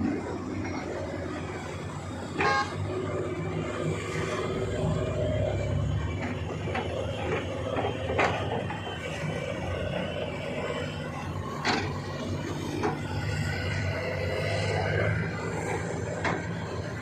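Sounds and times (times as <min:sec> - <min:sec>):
machinery humming and clattering: 0:00.0 - 0:17.0.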